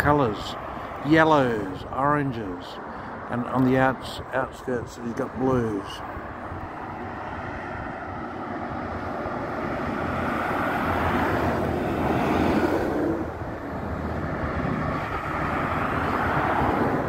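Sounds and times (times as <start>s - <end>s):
highway traffic passing: 0.0s - 17.0s
truck passing: 0.0s - 17.0s.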